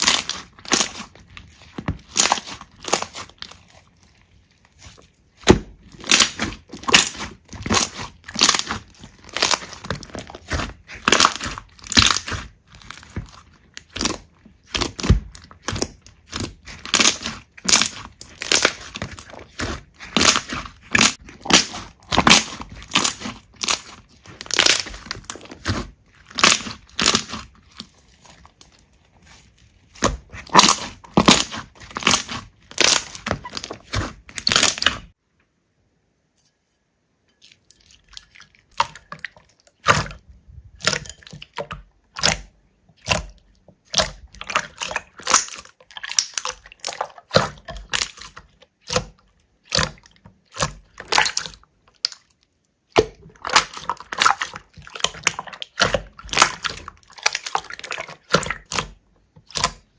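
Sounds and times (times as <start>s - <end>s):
slime crackling and crunching: 0.0s - 35.2s, 37.6s - 59.9s.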